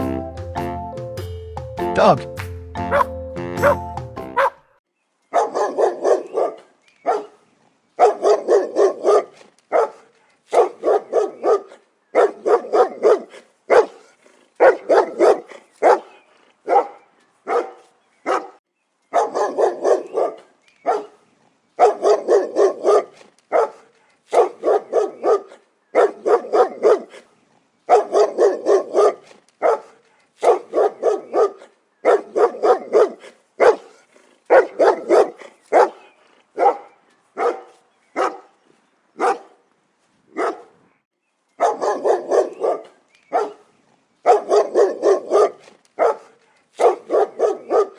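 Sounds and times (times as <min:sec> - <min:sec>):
dog barking: 0:02.9 - 0:03.8, 0:04.4 - 0:04.6, 0:05.3 - 0:07.4, 0:08.0 - 0:21.2, 0:21.8 - 0:27.3, 0:27.9 - 0:38.6, 0:39.2 - 0:39.6, 0:40.3 - 0:40.8, 0:41.6 - 0:47.9.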